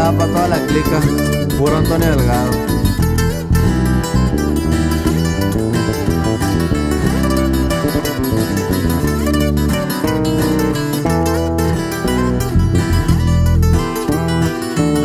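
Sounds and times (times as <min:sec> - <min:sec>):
acoustic guitars picking melody: 0:00.0 - 0:15.0
bass guitar: 0:00.0 - 0:15.0.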